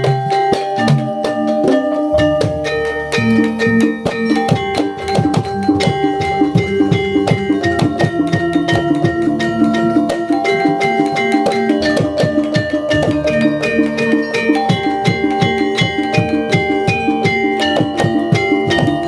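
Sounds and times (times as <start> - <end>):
fast percussion beat: 0.0 - 19.0
sustained melodic notes: 0.0 - 19.0.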